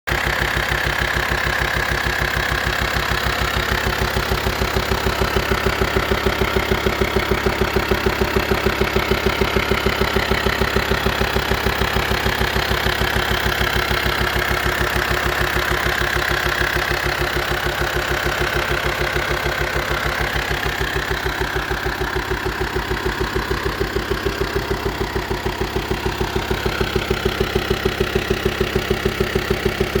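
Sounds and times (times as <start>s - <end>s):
diesel engine idling with knocking: 0.1s - 30.0s.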